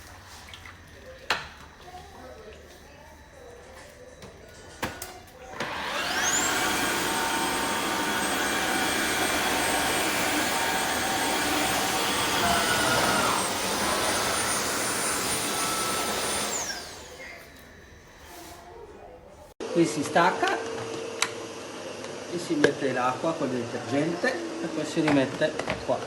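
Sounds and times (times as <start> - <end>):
floor cleaner motor whine: 0.0 - 26.0.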